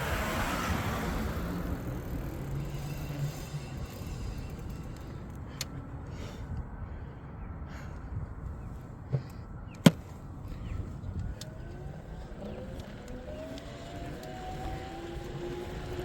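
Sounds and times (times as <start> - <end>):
e-bike riding rumble: 0.0 - 16.0.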